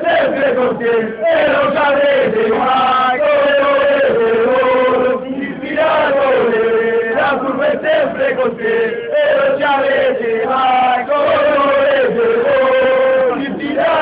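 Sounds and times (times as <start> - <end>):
men's voices chanting in unison: 0.0 - 14.0.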